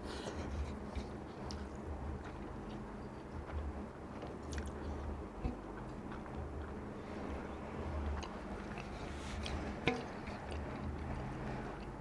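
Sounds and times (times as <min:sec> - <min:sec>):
man chewing food: 0:00.0 - 0:12.0
steady low hum: 0:00.0 - 0:12.0.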